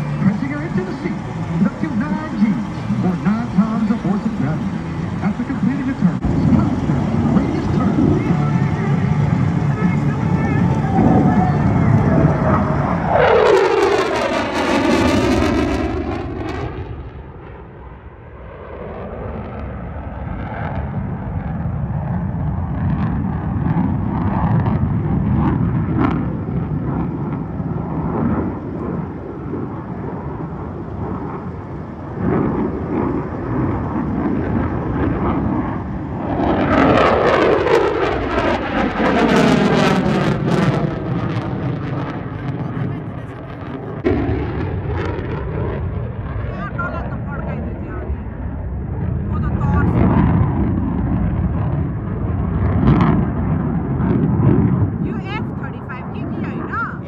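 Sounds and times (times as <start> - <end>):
jet aircraft flying past: 0.0 - 57.0
low engine rumble: 0.0 - 57.0.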